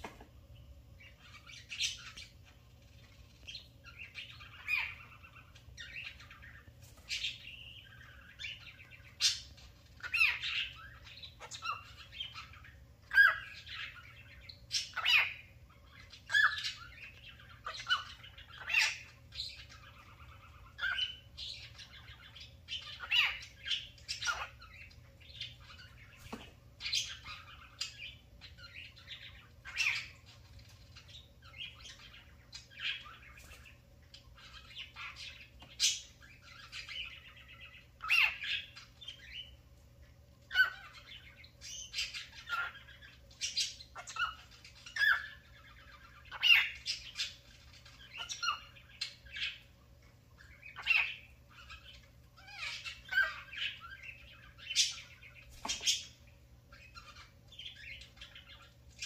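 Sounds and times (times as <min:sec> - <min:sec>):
cockatiel chirping and squawking: 0:01.0 - 0:39.6, 0:40.4 - 0:49.7, 0:50.4 - 0:59.0.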